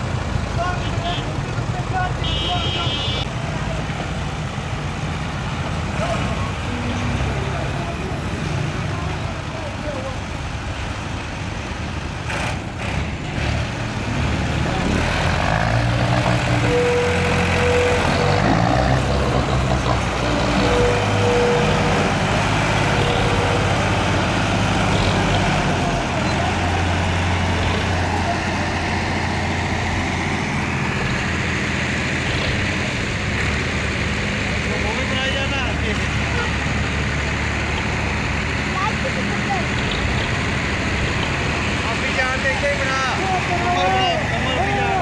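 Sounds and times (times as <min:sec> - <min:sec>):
tractor engine running: 0:03.0 - 0:45.0.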